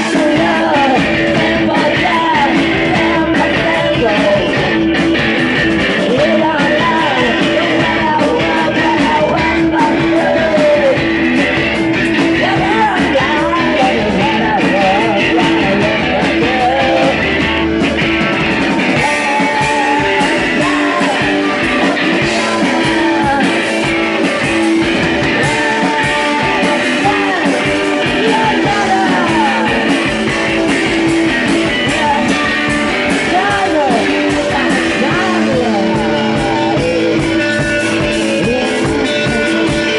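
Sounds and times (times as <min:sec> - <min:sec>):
person singing: 0:00.0 - 0:18.0, 0:18.8 - 0:39.9
rock band playing: 0:00.0 - 0:39.9.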